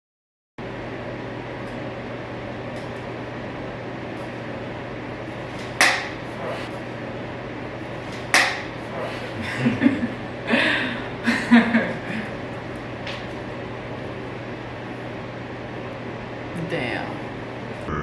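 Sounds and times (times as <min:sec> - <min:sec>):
room hum: 0:00.6 - 0:18.0.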